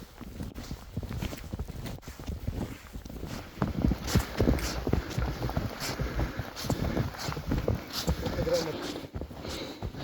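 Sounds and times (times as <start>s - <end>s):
boots crunching in snow: 0.0s - 10.0s.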